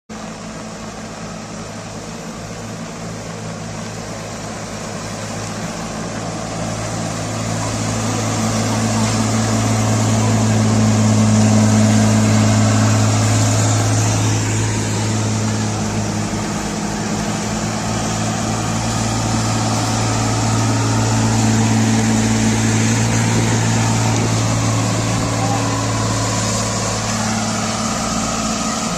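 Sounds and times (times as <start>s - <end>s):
machine engine droning: 0.1s - 28.9s.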